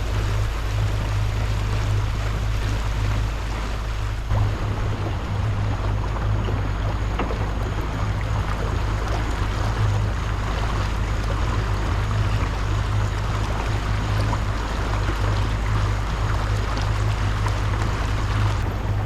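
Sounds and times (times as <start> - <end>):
boat motor humming: 0.0 - 19.0
water noise: 0.0 - 19.0.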